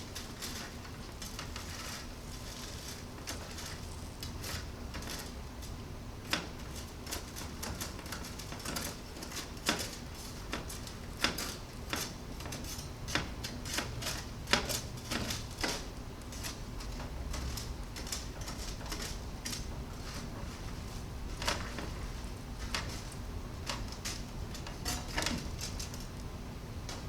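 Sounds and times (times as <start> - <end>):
scraping against metal basket: 0.0 - 5.8, 6.8 - 26.2.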